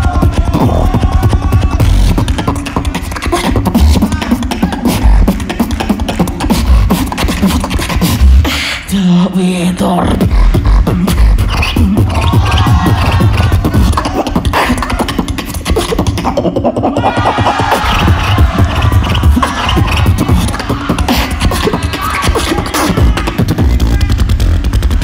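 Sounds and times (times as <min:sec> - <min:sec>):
beatboxing through microphone: 0:00.0 - 0:25.0.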